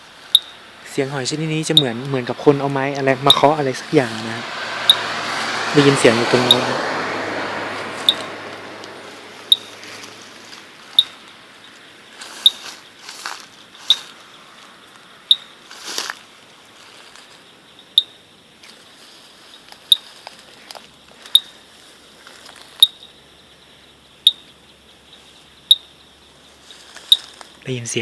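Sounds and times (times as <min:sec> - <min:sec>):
night insects hissing: 0:00.0 - 0:28.0
sharp high clicking calls: 0:00.2 - 0:06.8, 0:07.8 - 0:16.2, 0:17.2 - 0:18.3, 0:19.4 - 0:21.6, 0:22.4 - 0:23.2, 0:24.1 - 0:28.0.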